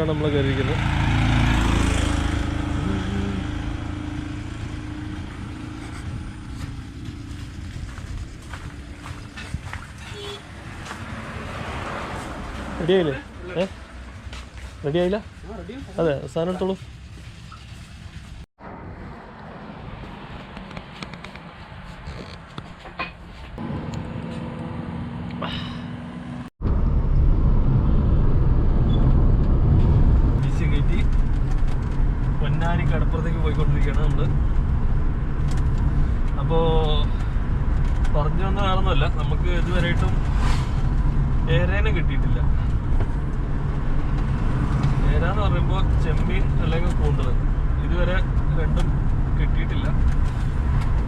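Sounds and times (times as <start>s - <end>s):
steady engine hum: 0.0s - 17.4s, 18.6s - 51.0s
road vehicle passing: 0.0s - 51.0s.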